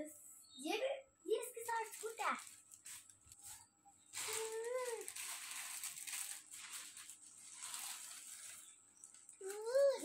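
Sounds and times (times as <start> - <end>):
plastic bags rustling: 1.6 - 10.0.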